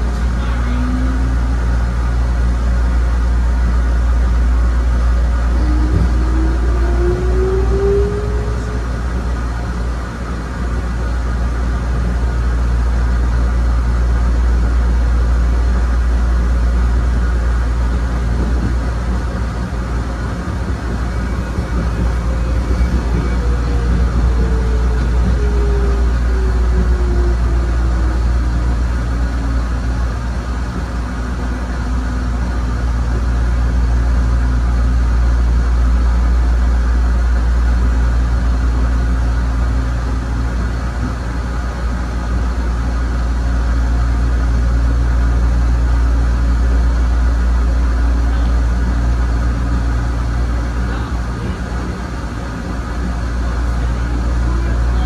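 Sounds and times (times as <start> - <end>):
electric railcar running: 0.0 - 55.0.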